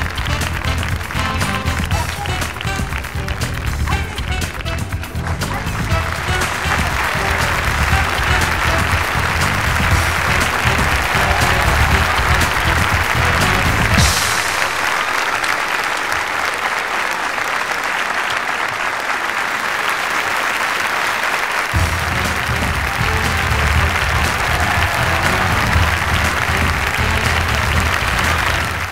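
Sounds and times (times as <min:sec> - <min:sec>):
band music: 0:00.0 - 0:16.2, 0:21.7 - 0:28.9
audience applauding: 0:00.0 - 0:28.9.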